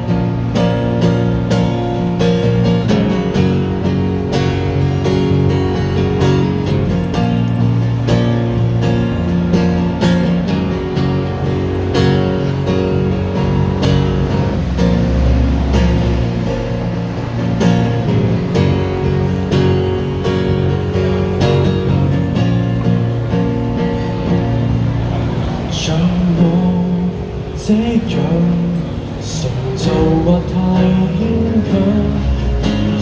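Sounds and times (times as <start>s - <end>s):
low bass line: 0.0s - 33.0s
strummed acoustic guitar: 0.0s - 33.0s.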